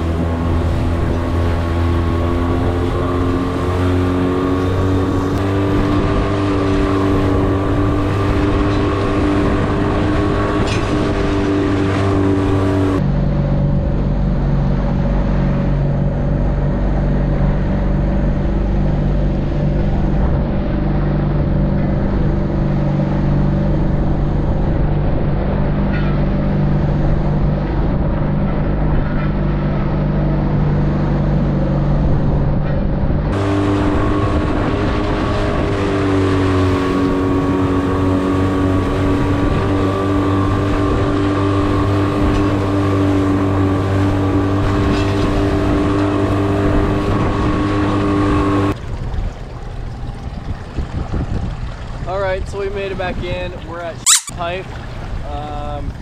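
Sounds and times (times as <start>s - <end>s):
small outboard motor running: 0.0s - 32.6s, 33.2s - 56.0s.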